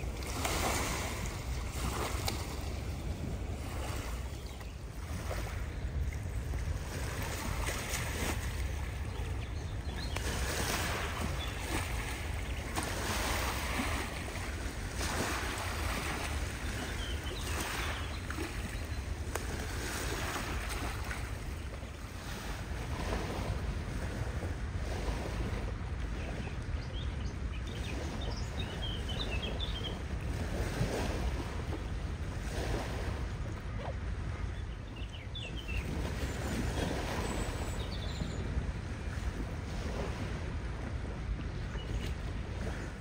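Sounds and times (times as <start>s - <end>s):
water washing at shore: 0.0s - 43.0s
wind on microphone: 0.0s - 43.0s.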